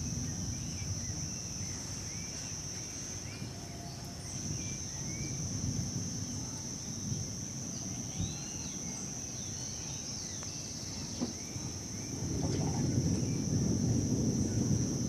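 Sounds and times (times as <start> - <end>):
high insect drone: 0.0 - 15.0
low wind rumble: 0.0 - 15.0.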